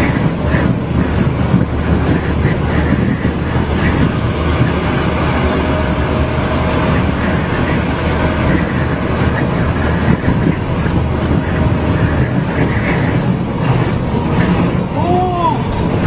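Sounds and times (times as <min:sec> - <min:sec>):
low hum: 0:00.0 - 0:16.0
strong wind: 0:00.0 - 0:16.0
vehicle engine and road noise: 0:00.0 - 0:16.0.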